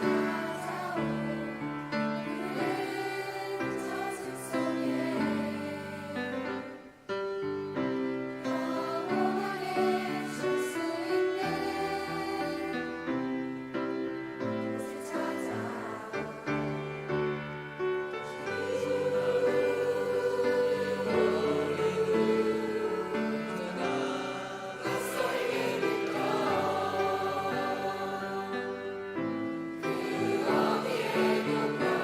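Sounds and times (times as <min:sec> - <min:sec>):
choir singing worship song: 0:00.0 - 0:32.0
musical accompaniment: 0:00.0 - 0:32.0.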